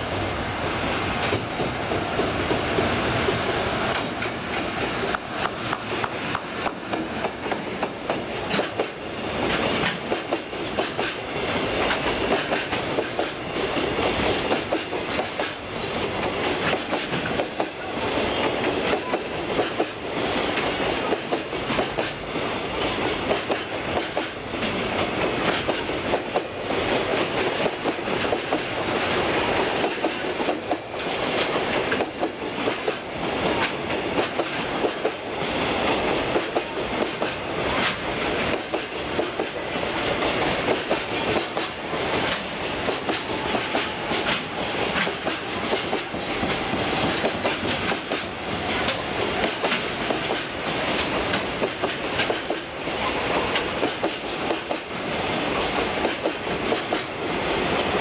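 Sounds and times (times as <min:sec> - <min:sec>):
train wheels clattering over rail joints: 0:03.9 - 0:58.0.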